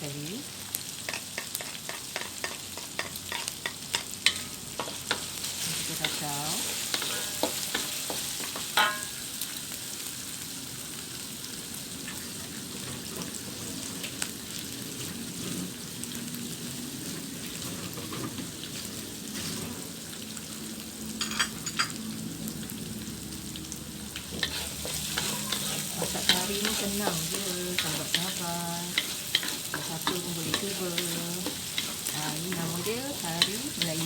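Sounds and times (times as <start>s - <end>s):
aromatics sizzling in oil: 0.0s - 34.0s.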